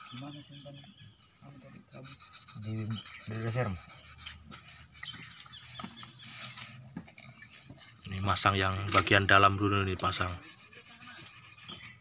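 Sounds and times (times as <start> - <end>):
sandpaper rubbing on metal: 1.9 - 12.0.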